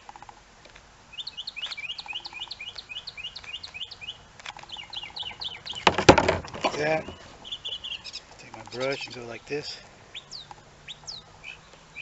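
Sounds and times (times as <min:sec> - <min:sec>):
small bird chirping: 0:01.1 - 0:12.0.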